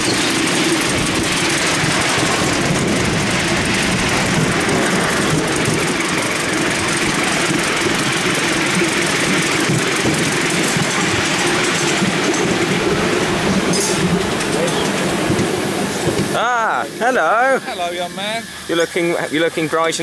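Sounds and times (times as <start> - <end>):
carriage wheels on rails: 0.0 - 16.4
miniature steam train running: 0.0 - 20.0.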